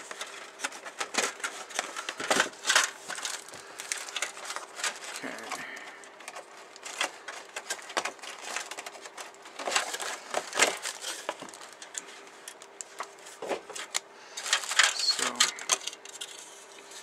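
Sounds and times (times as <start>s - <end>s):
faint steady hum: 0.0s - 17.0s
plastic bag crinkling: 0.0s - 17.0s.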